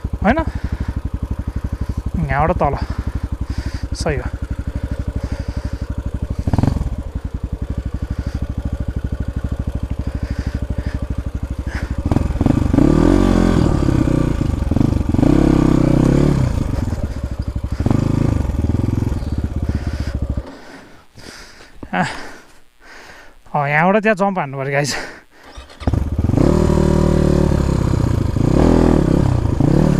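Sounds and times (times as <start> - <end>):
motorcycle engine idling and revving: 0.0 - 22.4, 24.9 - 29.9.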